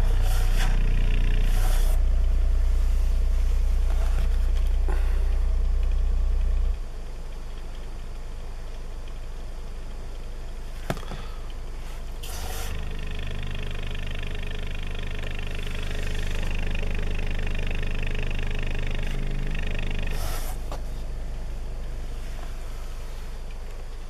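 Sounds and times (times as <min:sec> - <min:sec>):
subwoofer low test tone: 0:00.0 - 0:10.8, 0:11.6 - 0:24.0.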